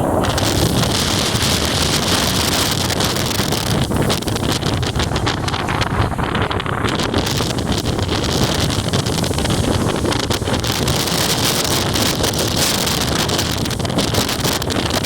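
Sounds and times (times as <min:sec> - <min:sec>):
hiss of wind-driven rain: 0:00.0 - 0:15.0
wind buffeting microphone: 0:00.0 - 0:15.0.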